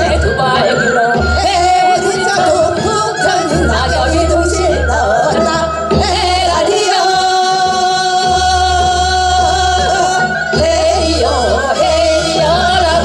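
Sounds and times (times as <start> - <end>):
women singing folk song: 0.0 - 13.0.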